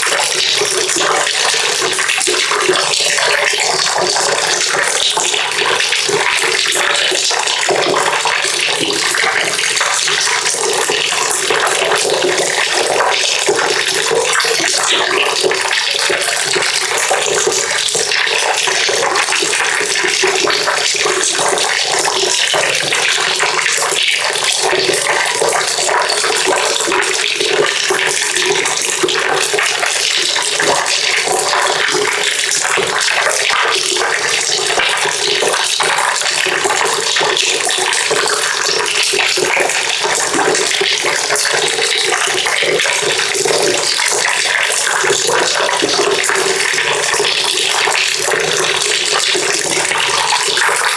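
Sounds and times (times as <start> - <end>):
water pouring into a bucket: 0.0 - 50.9.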